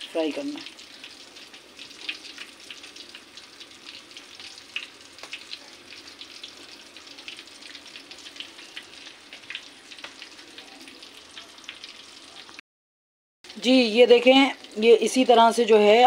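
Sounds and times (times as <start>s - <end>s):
chicken deep-frying in hot oil: 0.0s - 12.6s, 13.5s - 16.0s.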